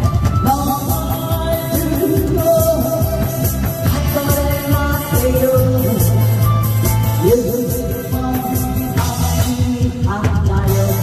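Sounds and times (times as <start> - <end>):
person singing: 0.0 - 11.0
steady backing beat: 0.0 - 11.0.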